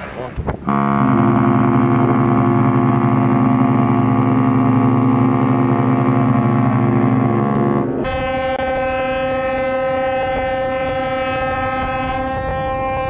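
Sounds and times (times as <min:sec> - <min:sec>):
deep ship's whistle blast: 0:00.7 - 0:13.0.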